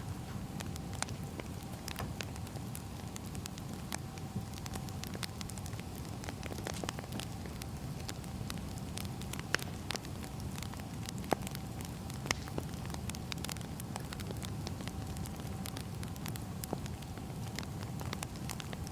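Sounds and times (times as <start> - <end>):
firewood crackling and popping: 0.0 - 18.9
steady low rumble: 0.0 - 18.9.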